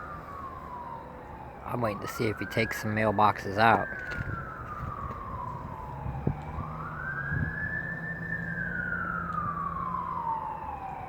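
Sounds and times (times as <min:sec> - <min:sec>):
emergency siren wailing: 0:00.0 - 0:11.0.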